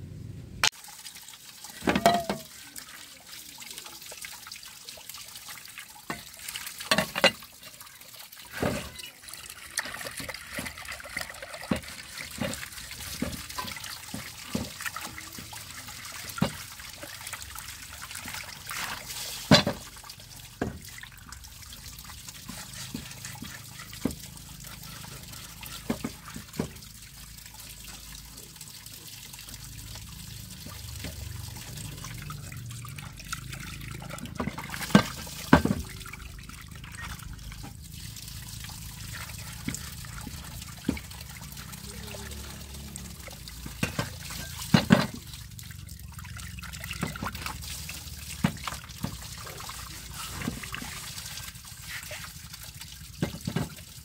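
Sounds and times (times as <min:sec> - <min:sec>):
water trickling: 0:00.6 - 0:54.0.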